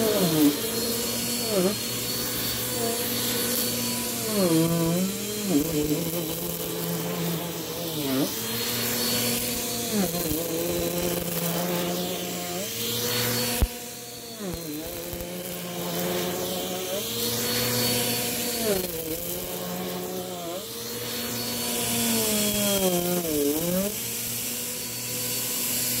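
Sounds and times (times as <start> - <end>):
vacuum cleaner running over rug: 0.0 - 26.0.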